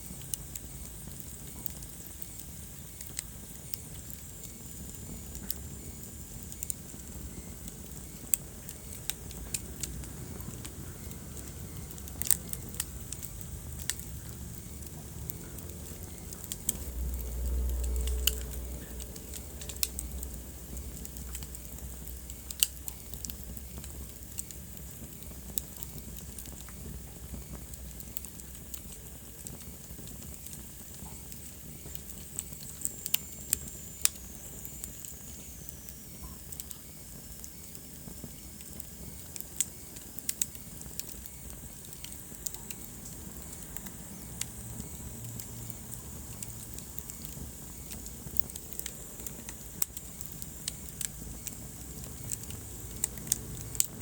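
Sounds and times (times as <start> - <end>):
logs crackling and popping: 0.0 - 54.0
wood fire burning: 0.0 - 54.0.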